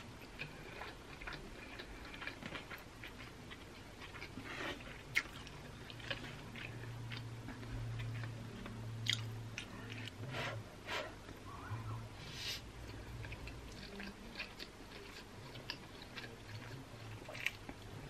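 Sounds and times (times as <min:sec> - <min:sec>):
chewing noodles: 0:00.0 - 0:10.2, 0:12.8 - 0:18.0
low steady hum: 0:00.0 - 0:18.0.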